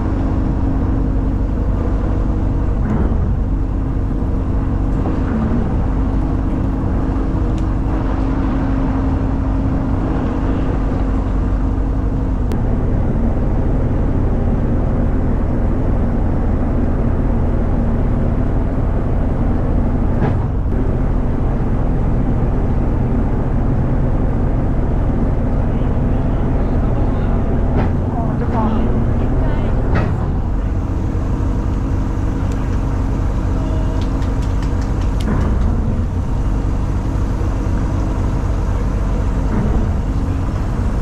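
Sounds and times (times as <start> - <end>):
boat engine idling: 0.0 - 41.0
water noise: 0.0 - 41.0
wind: 0.0 - 41.0.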